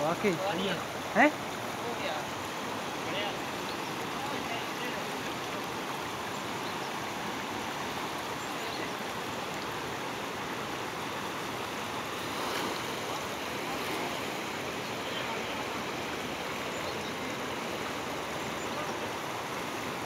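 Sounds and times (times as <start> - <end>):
river rushing through rapids: 0.0 - 20.0.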